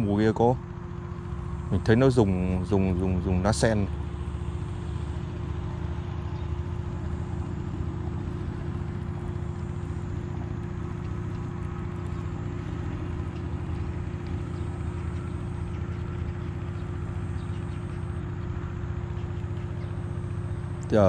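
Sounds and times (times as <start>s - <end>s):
low motor-like drone: 0.0s - 21.0s.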